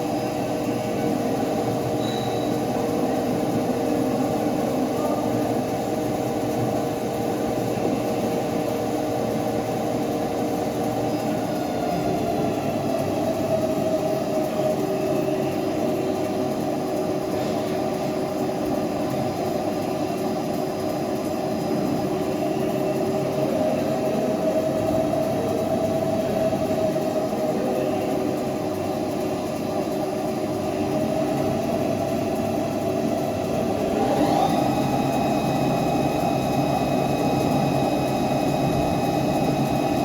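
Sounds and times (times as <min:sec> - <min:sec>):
lathe machining: 0:00.0 - 0:40.0
steady machine whine: 0:00.0 - 0:40.0.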